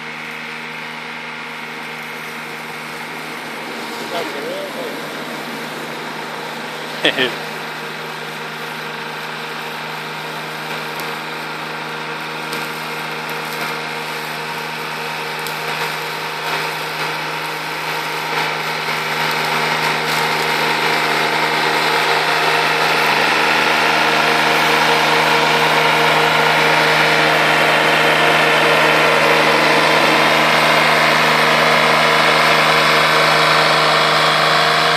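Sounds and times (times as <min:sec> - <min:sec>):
slope mower running: 0:00.0 - 0:34.9.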